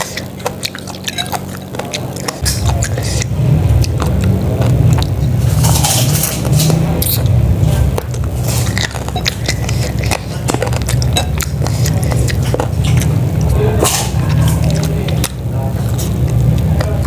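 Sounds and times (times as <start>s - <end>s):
person chewing and biting: 0.0s - 17.0s
steady low rumble: 0.0s - 17.0s.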